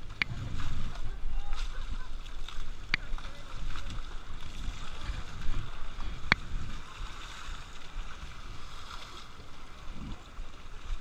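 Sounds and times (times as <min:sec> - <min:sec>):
water sloshing in river: 0:00.0 - 0:11.0
wind buffeting microphone: 0:00.0 - 0:11.0.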